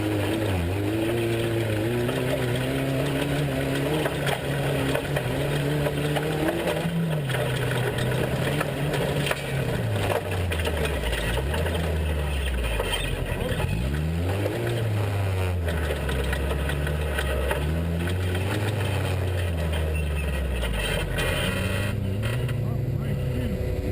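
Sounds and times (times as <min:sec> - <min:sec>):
sharp clicks and rattles: 0:00.0 - 0:22.8
truck engine revving: 0:00.0 - 0:23.9.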